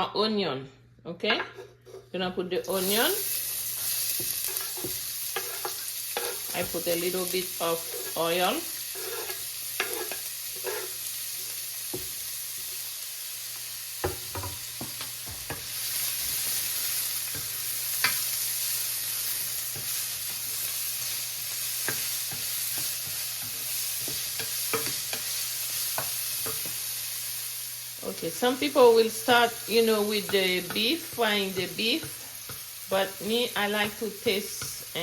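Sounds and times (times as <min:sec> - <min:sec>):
onion sizzling in oil: 0:02.6 - 0:35.0.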